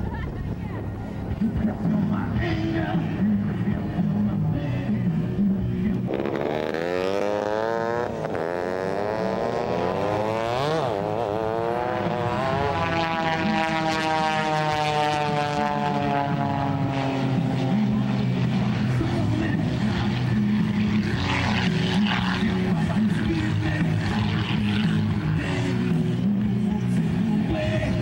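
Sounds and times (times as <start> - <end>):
propeller plane engine overhead: 0.0 - 28.0.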